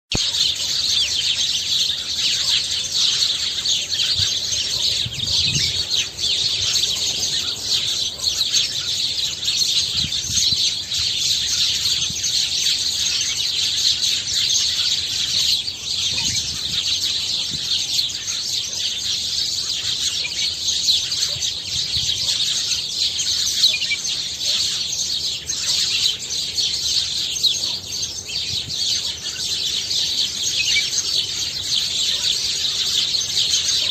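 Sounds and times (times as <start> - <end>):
many small birds chirping: 0.1 - 33.9.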